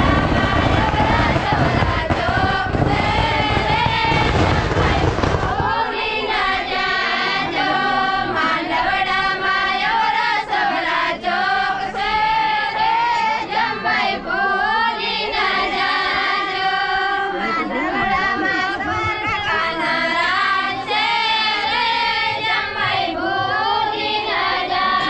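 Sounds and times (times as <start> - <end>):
women singing together: 0.0 - 25.0.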